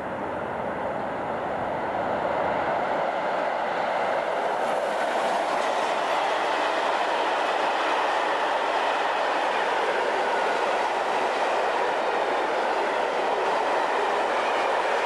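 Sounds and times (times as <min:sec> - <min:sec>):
freight train wheels rumbling: 0:01.4 - 0:15.0.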